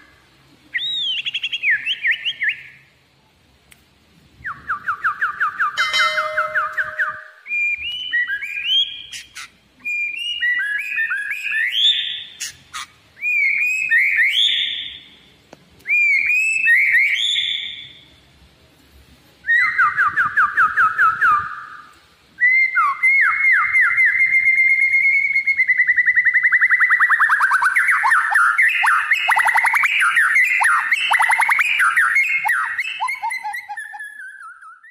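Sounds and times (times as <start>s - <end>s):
songbird trills and whistles: 0.7s - 2.8s, 4.4s - 15.2s, 15.8s - 18.1s, 19.4s - 34.9s.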